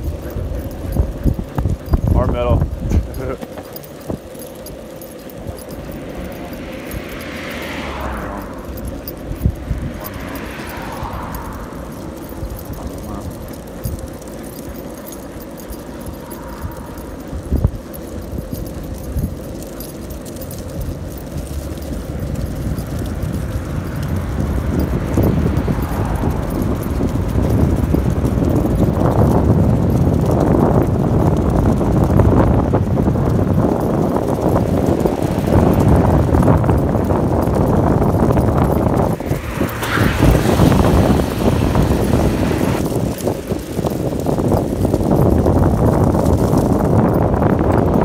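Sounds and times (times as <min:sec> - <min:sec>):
longboard wheels rolling on asphalt: 0:00.0 - 0:48.0.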